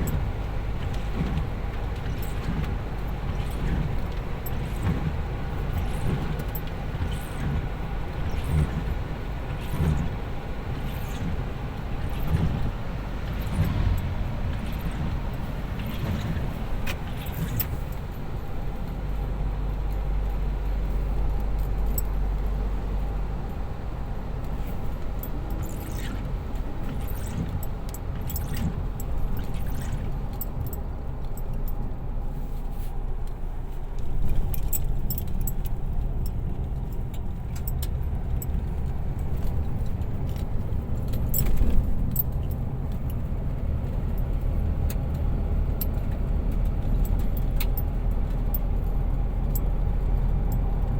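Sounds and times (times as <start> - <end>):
steady low rumble: 0.0 - 50.9.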